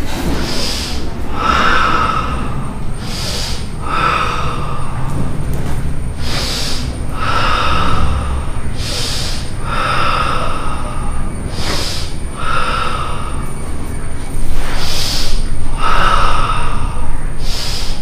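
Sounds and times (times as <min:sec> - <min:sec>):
forceful breathing: 0:00.0 - 0:18.0.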